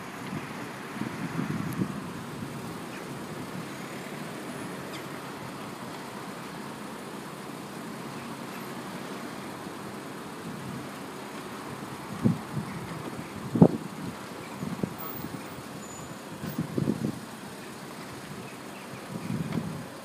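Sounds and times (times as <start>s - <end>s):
street traffic hiss and rumble: 0.0s - 20.0s.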